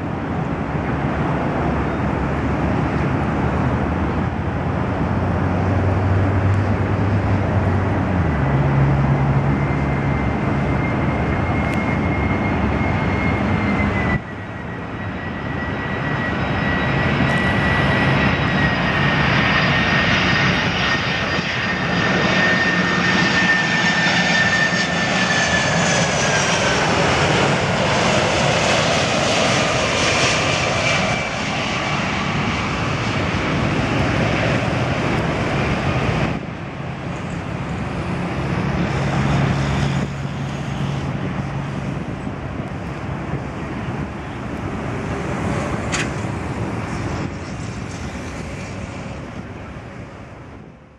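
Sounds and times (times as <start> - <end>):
jet engine rush and whine: 0.0 - 50.9.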